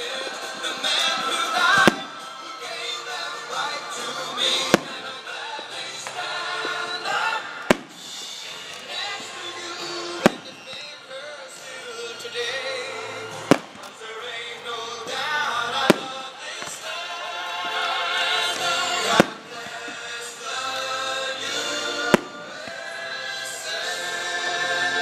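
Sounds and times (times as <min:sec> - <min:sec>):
music: 0:00.0 - 0:25.0
fireworks bangs: 0:00.2 - 0:12.4, 0:13.2 - 0:14.3, 0:15.0 - 0:23.3.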